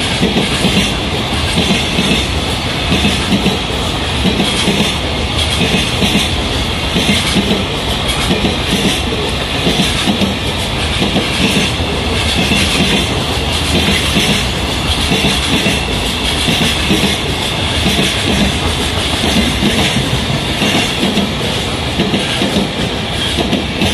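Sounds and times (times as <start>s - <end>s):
rumble and hiss of wheels on rail: 0.0s - 23.9s
train wheels clacking over rail joints: 0.0s - 23.9s.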